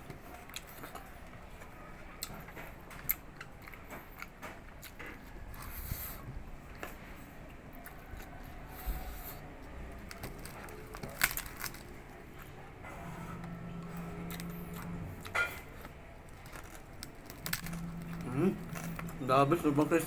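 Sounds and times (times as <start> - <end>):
chewing crispy fried pork: 0.0 - 20.0.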